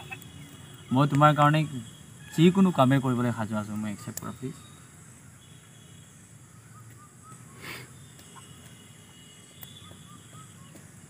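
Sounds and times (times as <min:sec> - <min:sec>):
bird chirping softly: 0:00.0 - 0:11.0
insects droning: 0:00.0 - 0:11.0.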